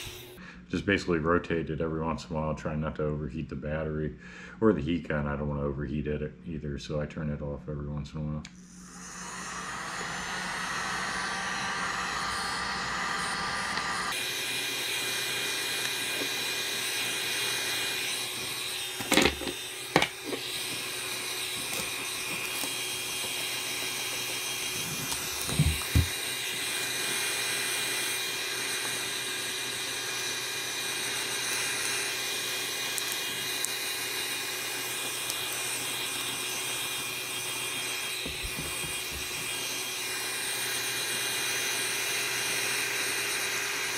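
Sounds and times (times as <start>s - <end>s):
heat gun blowing with fan whine: 0.0s - 1.1s, 8.4s - 43.9s.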